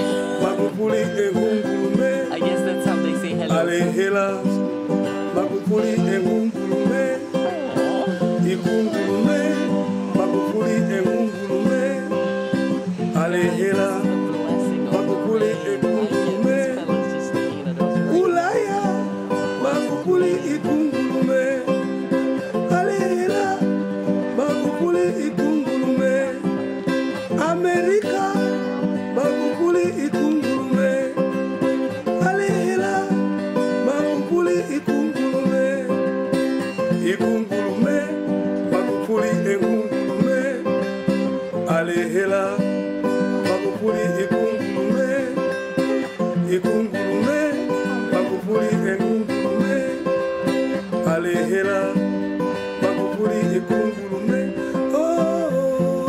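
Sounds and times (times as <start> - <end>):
person singing: 0.0 - 56.0
plucked acoustic guitar music: 0.0 - 56.0.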